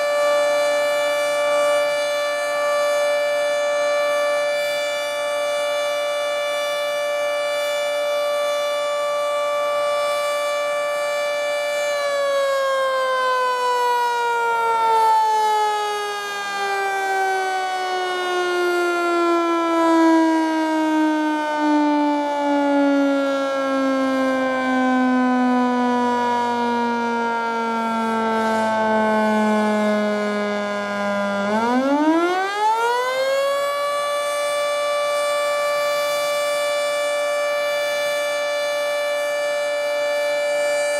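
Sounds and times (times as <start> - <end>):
dual-tone warning siren: 0.0 - 40.9.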